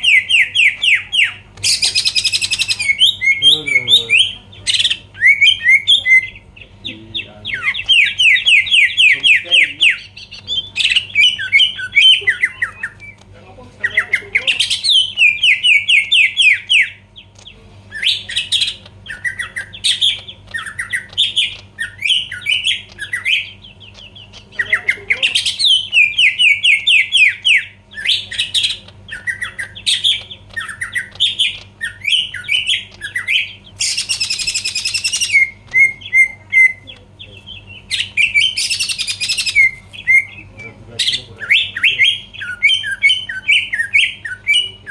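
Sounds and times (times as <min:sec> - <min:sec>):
bird singing fast trills: 0:00.0 - 0:13.2, 0:13.8 - 0:44.9.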